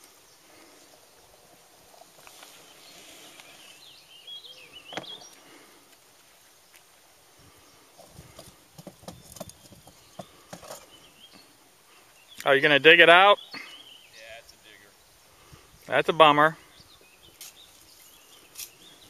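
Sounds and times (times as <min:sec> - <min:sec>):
faint riverside ambience: 0:00.0 - 0:19.0.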